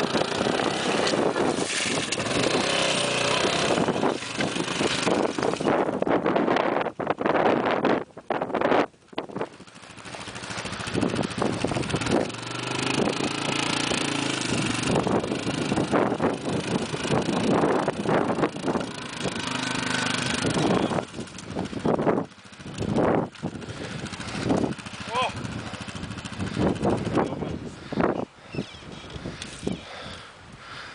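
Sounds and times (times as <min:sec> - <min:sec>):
quad bike engine under load: 0:00.0 - 0:30.3.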